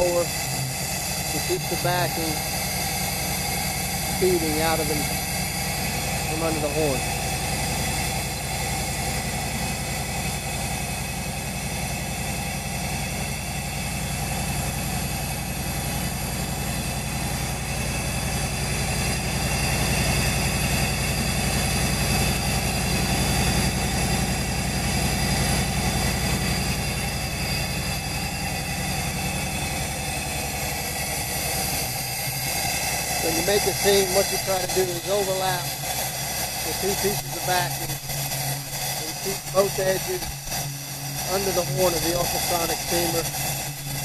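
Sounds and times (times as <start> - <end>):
high whining tones: 0.0 - 11.7, 14.2 - 44.0
machine hum: 0.0 - 44.0.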